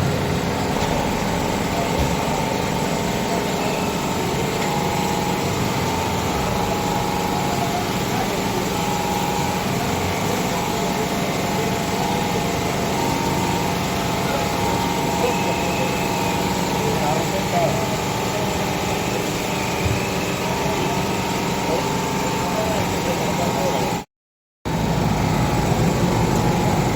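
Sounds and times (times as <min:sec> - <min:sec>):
small engine running: 0:00.0 - 0:24.1, 0:24.7 - 0:26.9.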